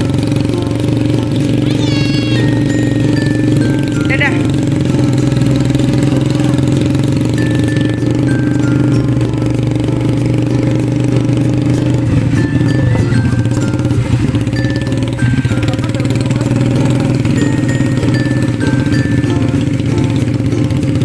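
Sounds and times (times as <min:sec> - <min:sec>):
small atv engine running: 0:00.0 - 0:21.0
tune of short high notes: 0:00.0 - 0:21.0.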